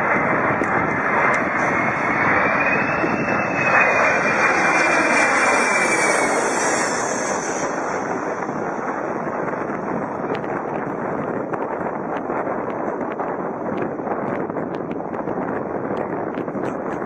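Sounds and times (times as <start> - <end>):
aircraft engines roaring with whine: 0.0 - 17.0.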